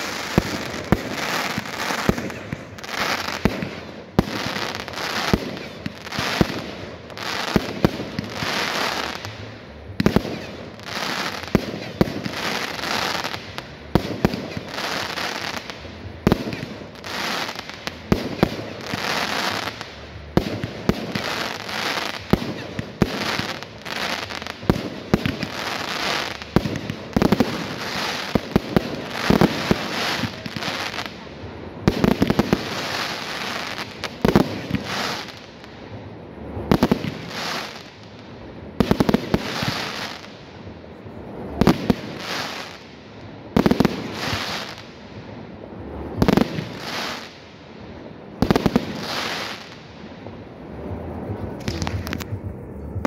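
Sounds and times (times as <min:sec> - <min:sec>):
fireworks bangs: 0:00.0 - 0:38.2, 0:43.5 - 0:53.0
fireworks crackling hiss: 0:00.0 - 0:53.0.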